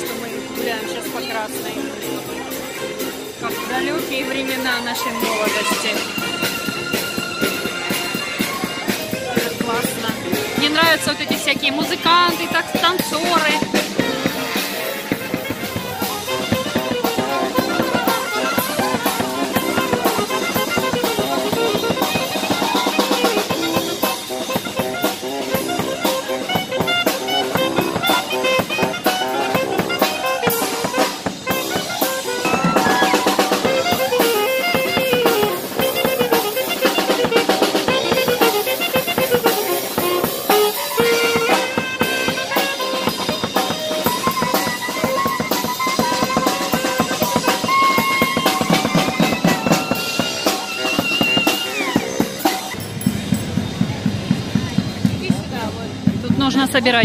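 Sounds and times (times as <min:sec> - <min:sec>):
drum kit beat: 0:00.0 - 0:57.0.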